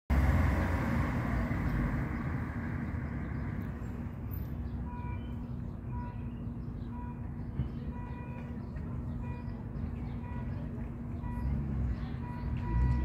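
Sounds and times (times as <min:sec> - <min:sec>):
traffic rumbling past: 0:00.1 - 0:13.0.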